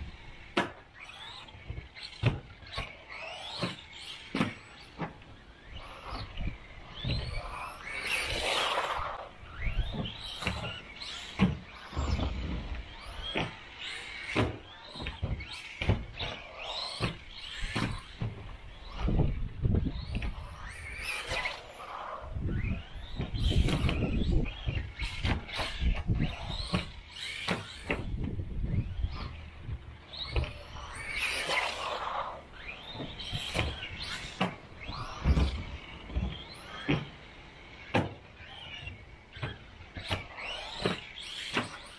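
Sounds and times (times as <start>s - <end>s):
electric motor whining: 0.0s - 41.9s
tyres sliding over track: 0.0s - 41.9s.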